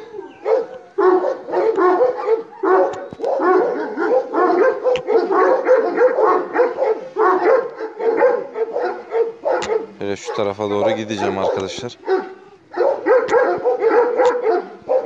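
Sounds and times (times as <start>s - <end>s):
dog barking aggressively: 0.4s - 15.0s.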